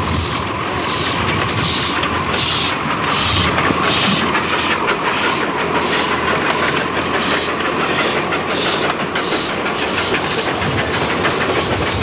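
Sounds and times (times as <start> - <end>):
steam train hissing chuffs: 0.0 - 12.0
wheels clattering on rails: 0.0 - 12.0.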